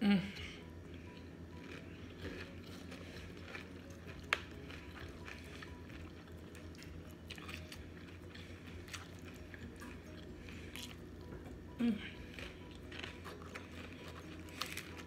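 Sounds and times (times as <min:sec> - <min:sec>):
steady low hum: 0:00.0 - 0:15.0
person chewing crunchy chips: 0:00.6 - 0:15.0.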